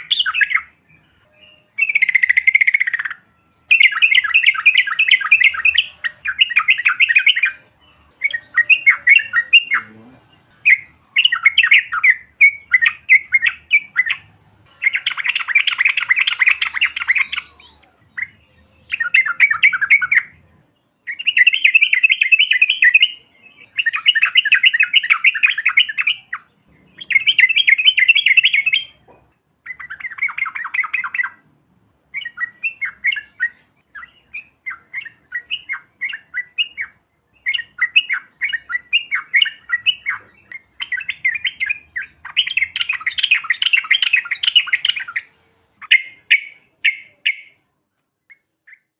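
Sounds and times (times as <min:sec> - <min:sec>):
bird song bubbling chatter: 0:00.0 - 0:31.4, 0:32.1 - 0:47.6.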